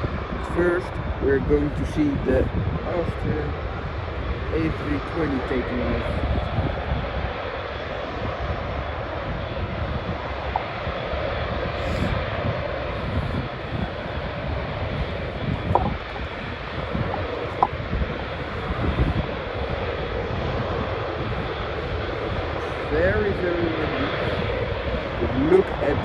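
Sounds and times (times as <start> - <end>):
distant jet engines: 0.0 - 26.0
wind buffeting microphone: 0.0 - 26.0.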